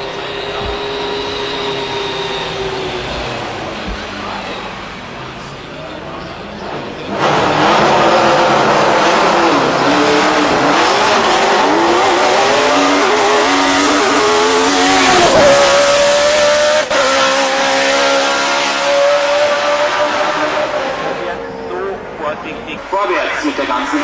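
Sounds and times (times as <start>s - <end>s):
racing engine accelerating: 0.0s - 5.6s, 6.6s - 24.0s.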